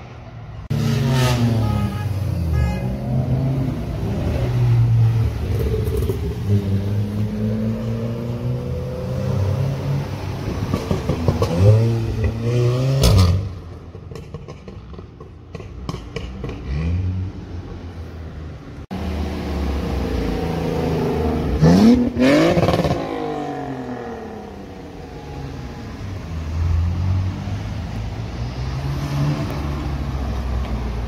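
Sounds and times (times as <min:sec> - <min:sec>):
cars accelerating past: 0:00.7 - 0:15.1, 0:18.9 - 0:31.0.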